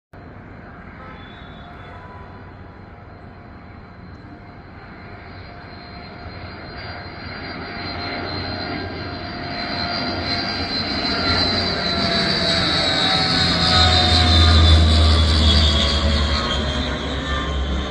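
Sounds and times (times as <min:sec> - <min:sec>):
airplane engine: 0:00.2 - 0:17.9.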